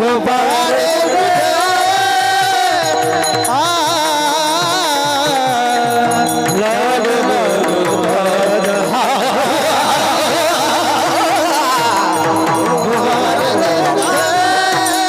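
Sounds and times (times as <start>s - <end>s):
high voice singing devotional melody: 0.0s - 15.0s
steady held tones: 0.1s - 15.0s.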